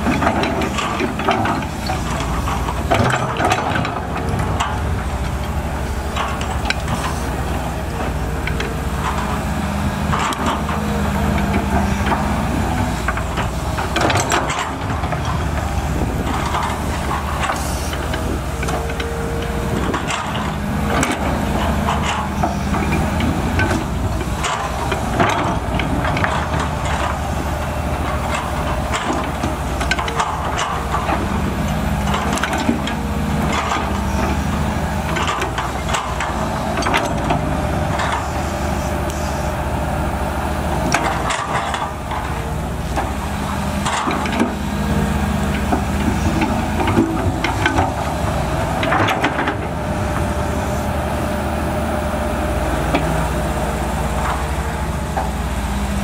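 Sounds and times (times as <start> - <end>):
clanks and knocks: 0.0 - 38.3, 40.8 - 50.3
excavator diesel engine running: 0.0 - 56.0.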